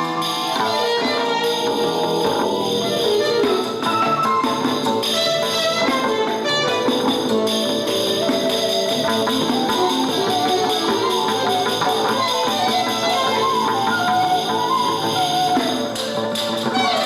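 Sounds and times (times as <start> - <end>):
instrumental ensemble music: 0.0 - 17.0.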